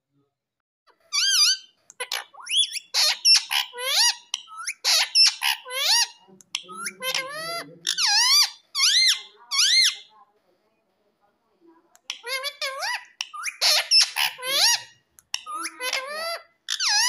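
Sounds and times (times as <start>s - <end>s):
parrot squeaky calls: 0.9s - 10.1s, 12.0s - 17.0s.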